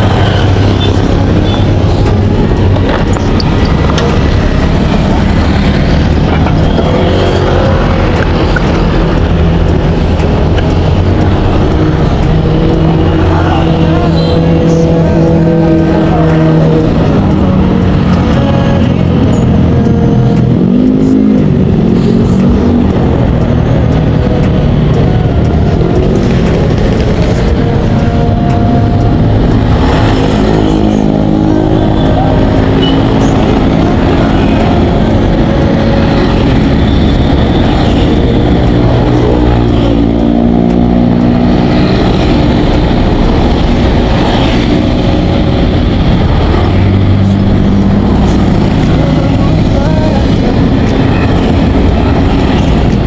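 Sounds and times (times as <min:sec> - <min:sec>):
loud rushing noise: 0:00.0 - 0:53.0
vehicle engine running: 0:00.0 - 0:53.0.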